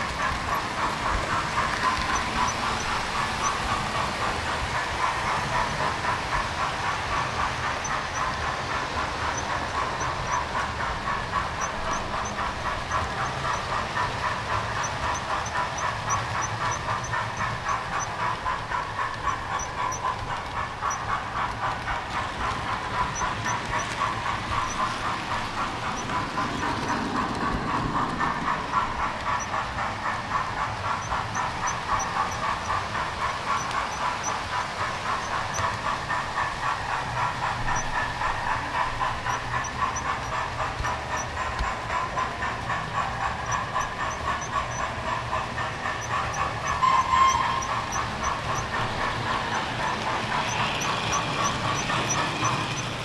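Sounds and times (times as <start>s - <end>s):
model train whirring: 0.0s - 53.0s
wheels clicking on rails: 0.0s - 53.0s.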